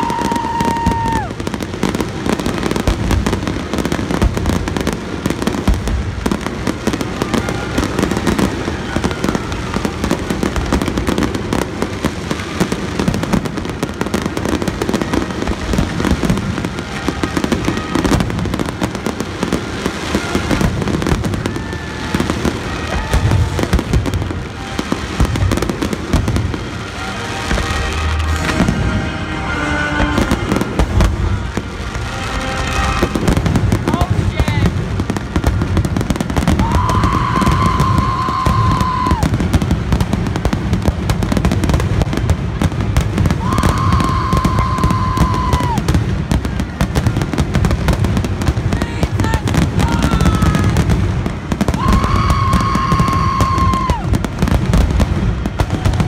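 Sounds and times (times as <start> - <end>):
fireworks bursts and crackles: 0.0 - 56.0.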